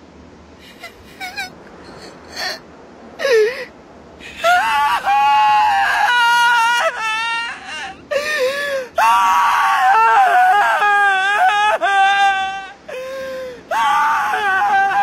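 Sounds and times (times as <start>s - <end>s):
boy crying and wailing: 0.6s - 2.6s, 3.2s - 15.0s.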